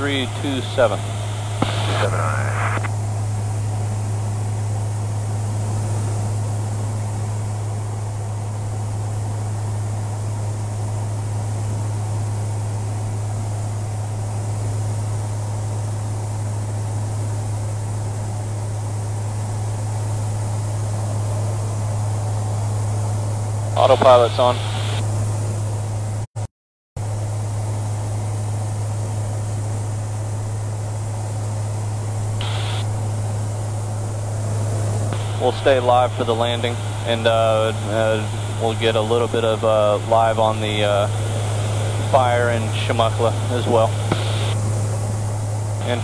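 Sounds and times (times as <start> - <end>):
aircraft engine and propeller drone: 0.0 - 26.2, 27.0 - 46.0.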